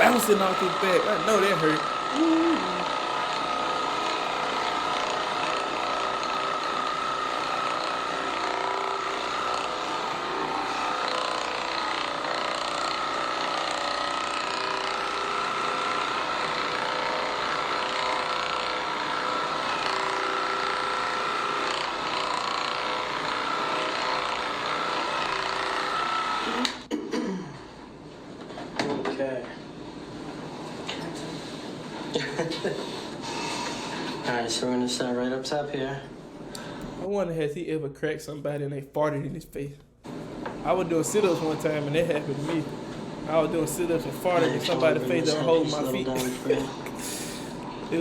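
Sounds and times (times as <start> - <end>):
massager motor whine: 0.0 - 26.9, 27.6 - 37.1, 40.0 - 48.0.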